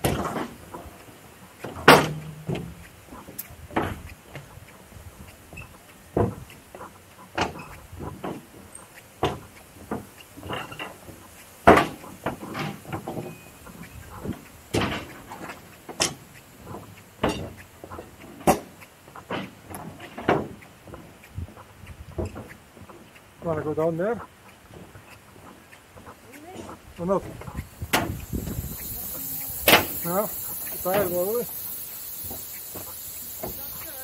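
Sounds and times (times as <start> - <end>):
footsteps on railway track: 0.0 - 34.0.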